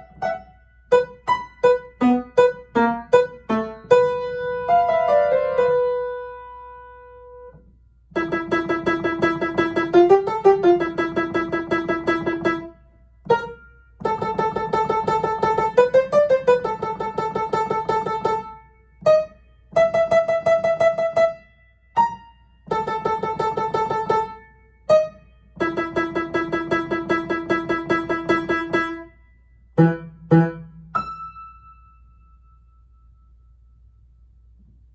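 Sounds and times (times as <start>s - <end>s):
upright piano playing: 0.0s - 32.4s.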